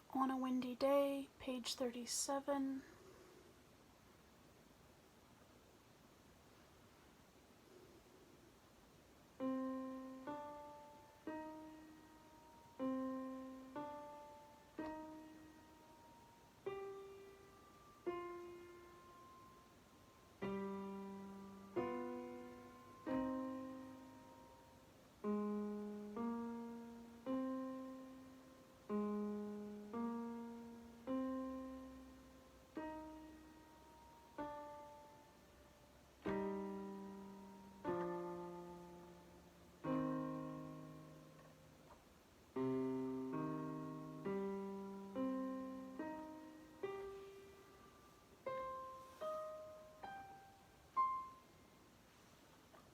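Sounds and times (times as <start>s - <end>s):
slow piano notes: 9.3s - 52.9s.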